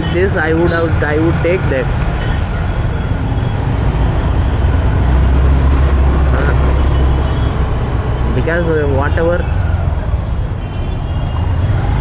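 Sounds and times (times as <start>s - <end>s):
road and traffic rumble: 0.0s - 12.0s.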